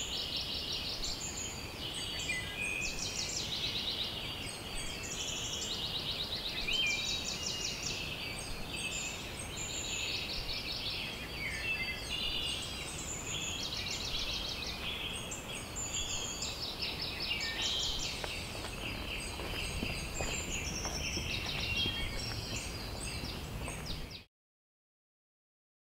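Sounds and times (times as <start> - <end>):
low steady outdoor rush: 0.0 - 24.2
songbirds chirping and trilling: 0.0 - 24.3.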